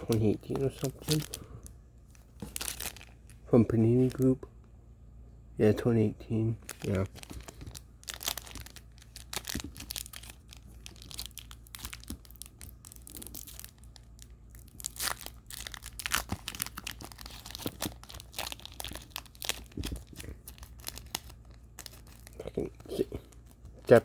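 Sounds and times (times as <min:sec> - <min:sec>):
foil wrapper tearing and crinkling: 0:00.0 - 0:01.4, 0:02.4 - 0:03.4, 0:06.6 - 0:24.0.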